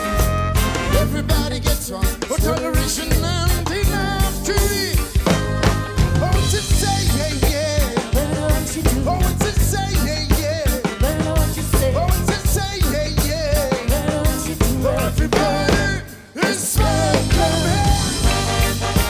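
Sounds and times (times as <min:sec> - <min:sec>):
ska band playing: 0:00.0 - 0:19.0
person singing: 0:00.8 - 0:19.0.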